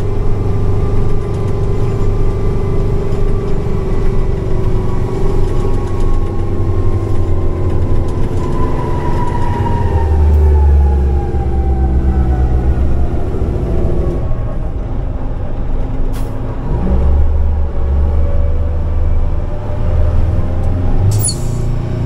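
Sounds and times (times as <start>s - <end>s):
diesel truck engine running: 0.0s - 22.0s
engine whine: 0.0s - 22.0s.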